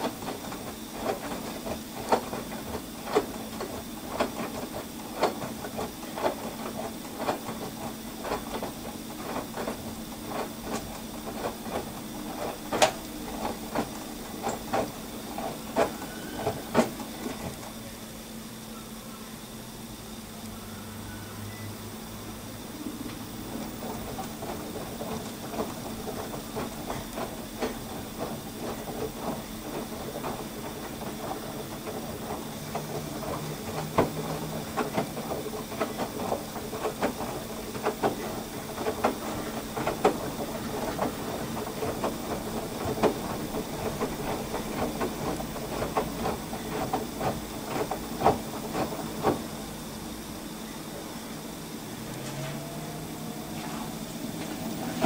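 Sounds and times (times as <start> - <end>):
water sloshing in washer drum: 0.0 - 17.8, 22.6 - 50.0
washer motor hum: 0.0 - 55.0.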